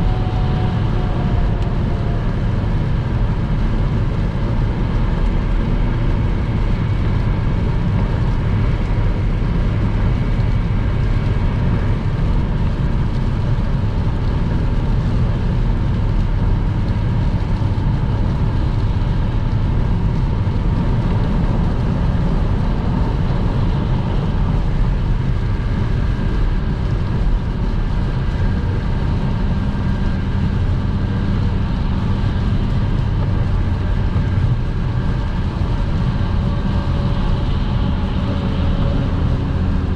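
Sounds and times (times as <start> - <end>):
car engine and tyres on wet road: 0.0 - 39.9.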